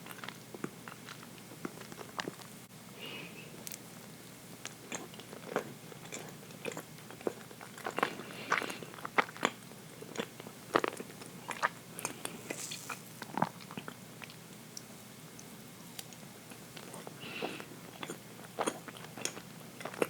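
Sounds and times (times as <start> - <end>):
person chewing cake: 0.0 - 2.6, 4.6 - 20.0.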